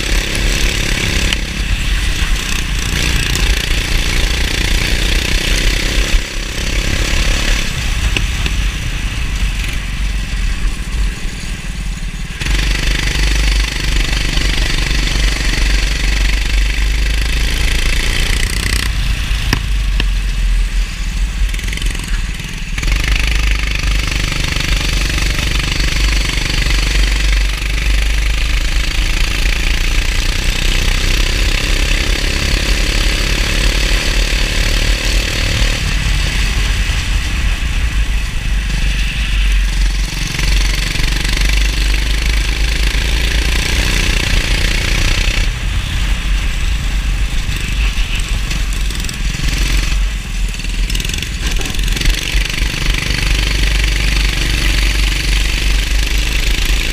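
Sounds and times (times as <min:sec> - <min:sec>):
go-kart engine running hard: 0:00.0 - 0:56.9.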